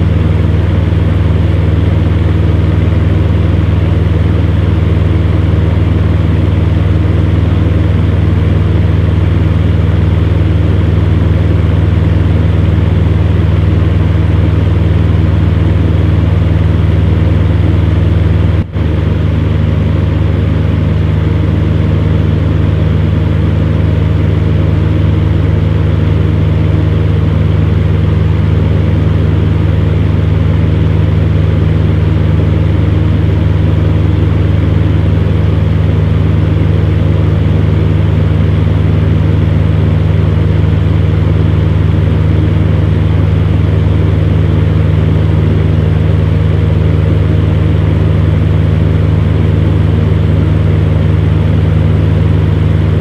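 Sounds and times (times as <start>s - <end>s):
fan heater humming and blowing: 0.0s - 53.0s.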